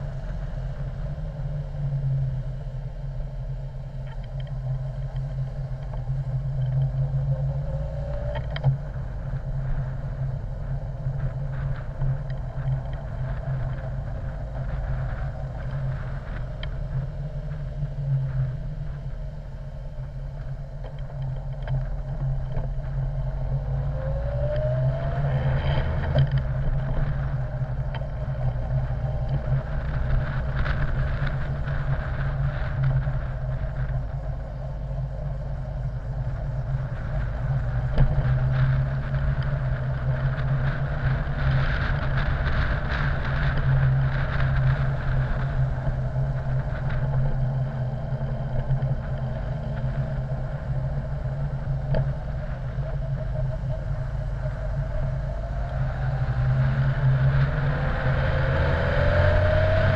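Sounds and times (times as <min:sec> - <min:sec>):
motorcycle engine hum: 0:00.0 - 0:59.9
road noise: 0:00.0 - 0:59.9.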